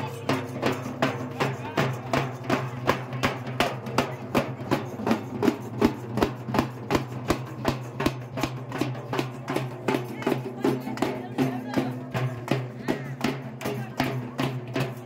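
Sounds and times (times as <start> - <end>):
barrel drums beaten with sticks: 0.0 - 15.0.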